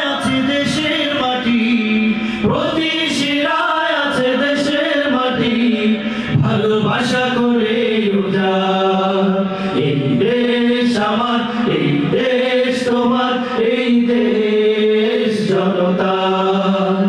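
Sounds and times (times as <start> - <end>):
men singing in harmony: 0.0 - 17.0.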